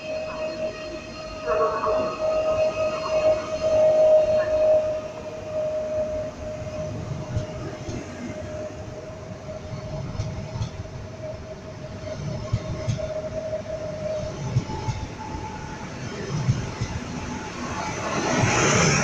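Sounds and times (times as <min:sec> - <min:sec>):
steady whining tone: 0:00.0 - 0:19.0
train wheels rumbling on rail: 0:00.0 - 0:19.0.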